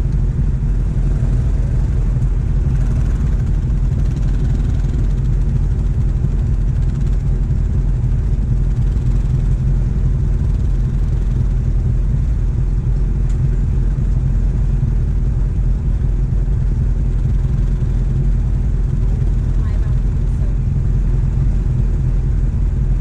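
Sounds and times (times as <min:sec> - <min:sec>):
engine rumbling at low throttle: 0:00.0 - 0:23.0.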